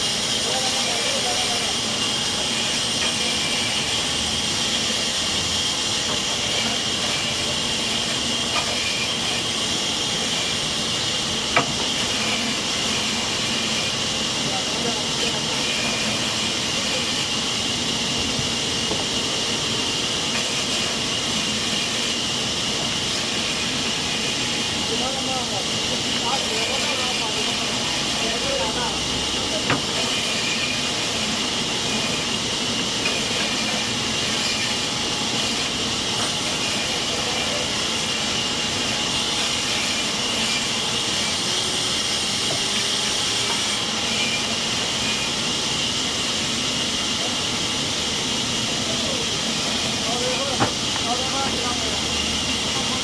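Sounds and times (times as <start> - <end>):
saw cutting through timber: 0.0 - 53.0
sawmill machinery running: 0.0 - 53.0.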